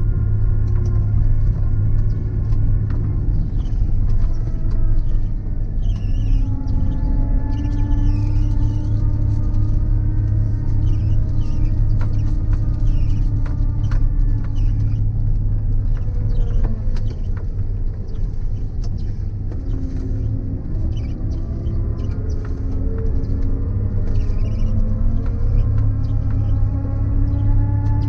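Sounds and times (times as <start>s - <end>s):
combine harvester rumbling: 0.0s - 28.0s.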